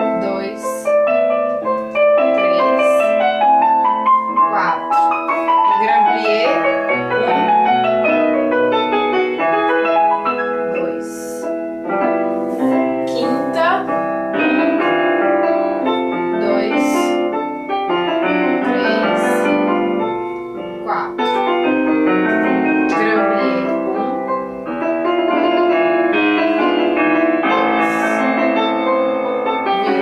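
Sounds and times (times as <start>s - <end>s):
piano music with sweeping runs: 0.0s - 30.0s.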